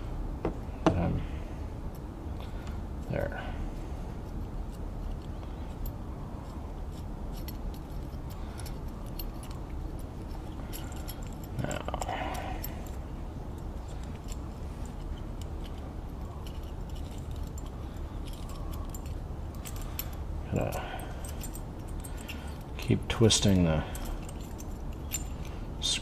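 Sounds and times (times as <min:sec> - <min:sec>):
low hum: 0:00.0 - 0:26.0
small metal parts clicking: 0:04.2 - 0:26.0.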